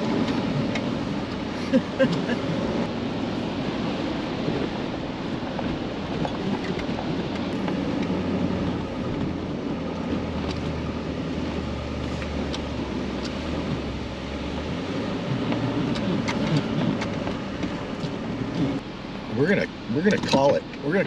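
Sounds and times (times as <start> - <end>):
wind noise: 0.0 - 18.8
truck engine and tires droning: 0.0 - 21.0.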